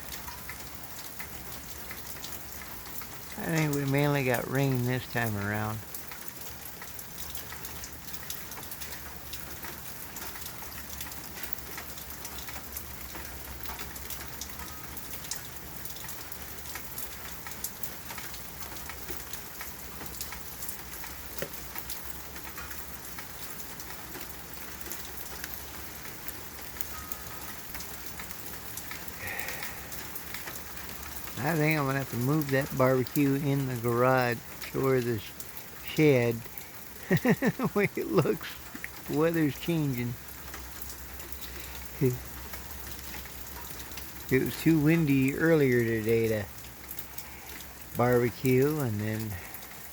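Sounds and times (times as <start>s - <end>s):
rain pattering on hard surfaces: 0.0s - 49.9s.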